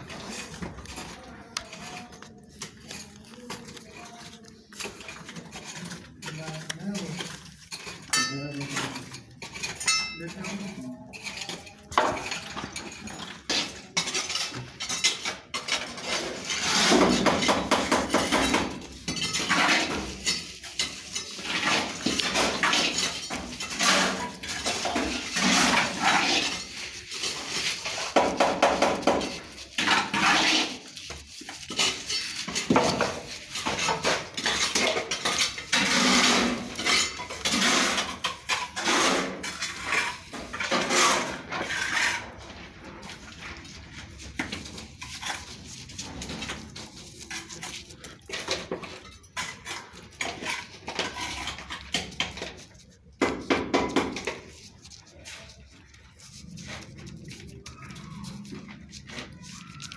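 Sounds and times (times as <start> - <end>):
metal tools scraping wet mortar: 0.0 - 59.9.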